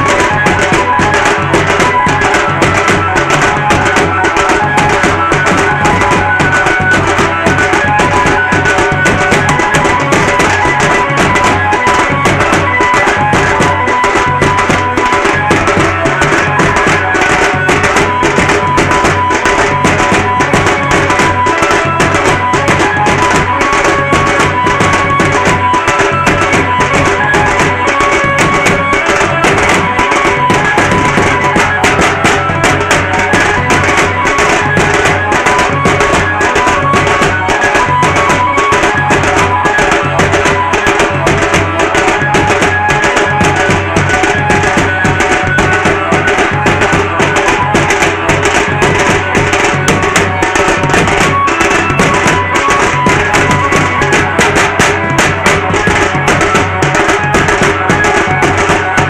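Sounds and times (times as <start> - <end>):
band music: 0.0 - 59.0
fast drumming: 0.0 - 59.0.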